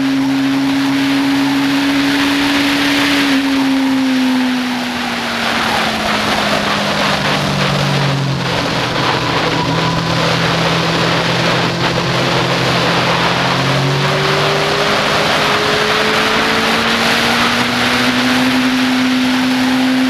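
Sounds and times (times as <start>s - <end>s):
motorcycle engine revving: 0.0s - 20.0s
wind rush on microphone: 0.0s - 20.0s.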